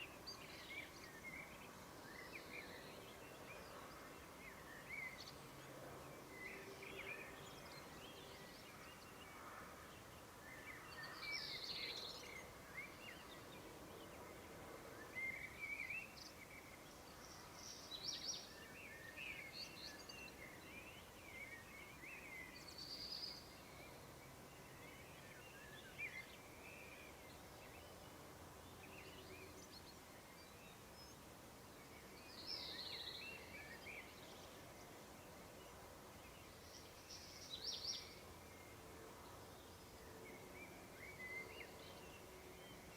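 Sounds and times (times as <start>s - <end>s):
low background hiss: 0.0s - 42.9s.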